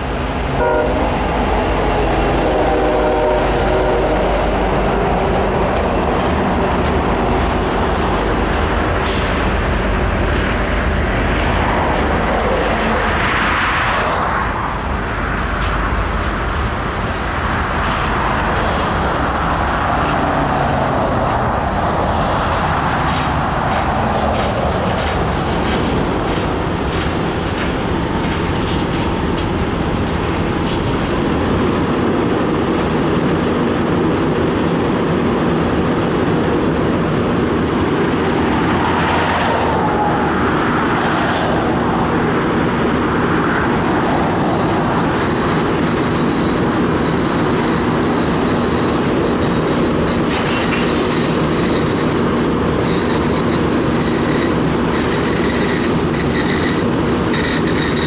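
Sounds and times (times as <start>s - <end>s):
train cars clicking and clanking: 0.0s - 58.0s
train wheels rumbling on rail: 0.0s - 58.0s.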